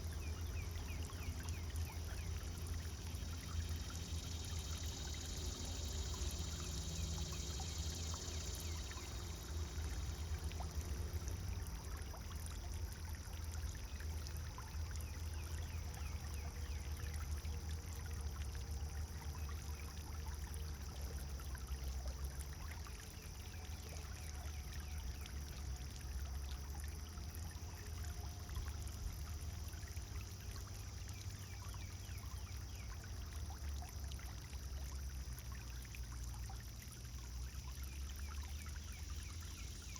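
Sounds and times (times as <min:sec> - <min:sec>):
fountain water splashing into pond: 0:00.0 - 0:39.9.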